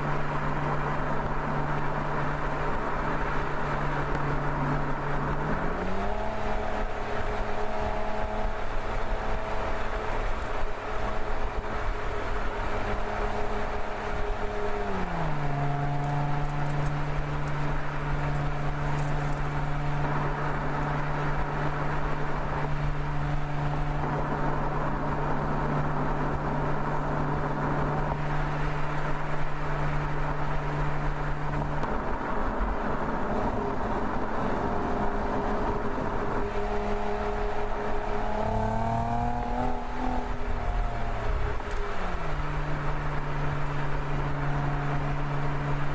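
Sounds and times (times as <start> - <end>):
car engine running: 0.0 - 45.9
tyre and road noise: 0.0 - 45.9.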